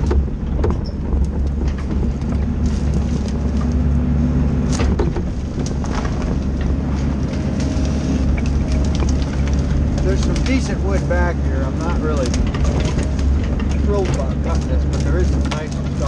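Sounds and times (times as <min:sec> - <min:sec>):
sharp knocks and cracks: 0:00.0 - 0:04.0, 0:04.6 - 0:16.0
diesel engine running: 0:00.0 - 0:16.0.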